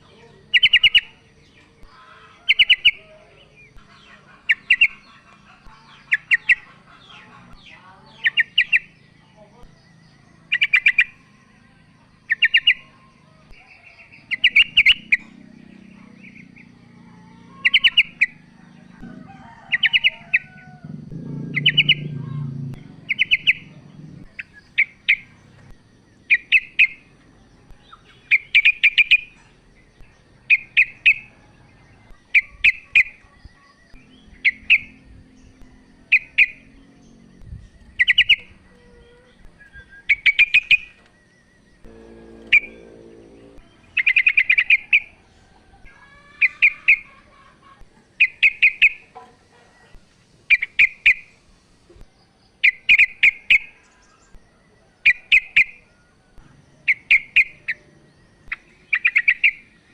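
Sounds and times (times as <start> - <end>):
bird chirping calls: 0.0 - 51.4, 52.5 - 59.9.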